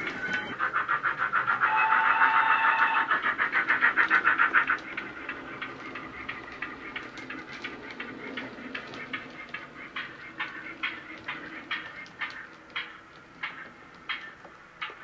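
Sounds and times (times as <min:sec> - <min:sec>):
model steam locomotive chuffs: 0:00.0 - 0:15.0.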